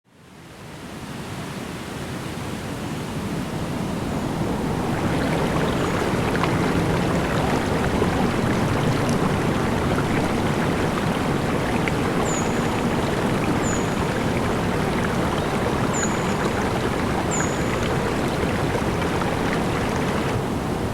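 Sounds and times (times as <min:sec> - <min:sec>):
flowing water stream: 0:01.1 - 0:20.9.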